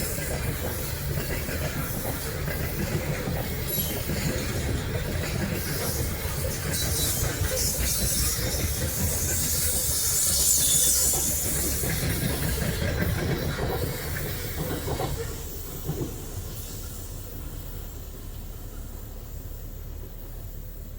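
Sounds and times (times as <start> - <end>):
train wheels on rails: 0.0 - 20.9.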